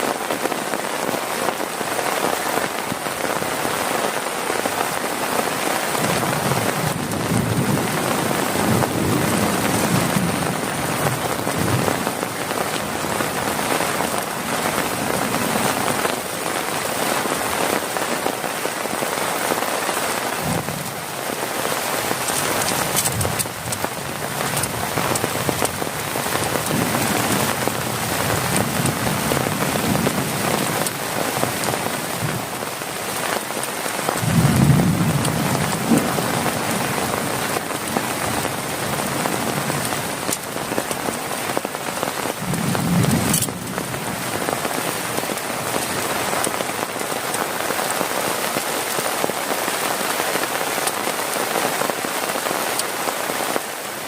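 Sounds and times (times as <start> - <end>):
heavy rain on a plastic tarp: 0.0 - 54.0.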